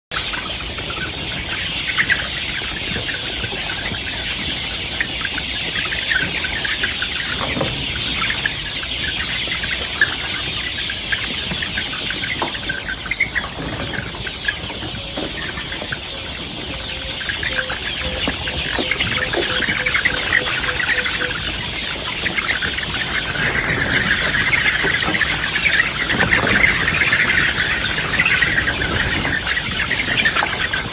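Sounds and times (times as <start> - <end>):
chickens and chicks peeping and clucking: 0.1 - 30.9.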